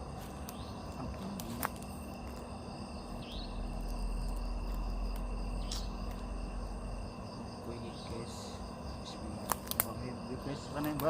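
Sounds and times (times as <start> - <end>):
low rumble: 0.0 - 9.4
crickets chirping: 0.0 - 11.0.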